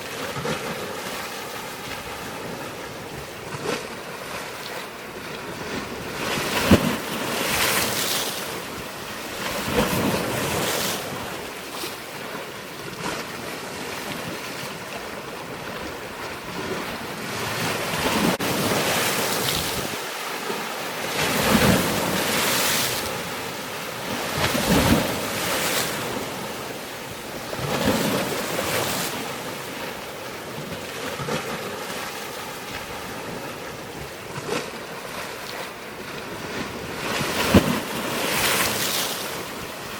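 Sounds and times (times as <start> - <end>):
waves washing in: 0.0 - 39.9.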